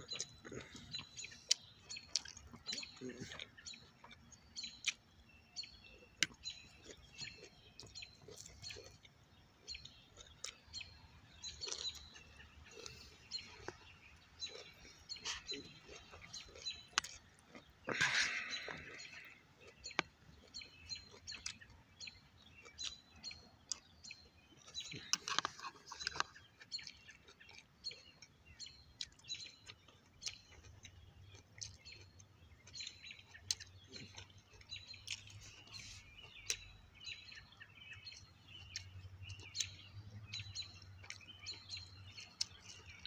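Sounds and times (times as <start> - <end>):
mouth chewing noises: 0.0 - 43.0
small birds chirping: 0.0 - 43.0.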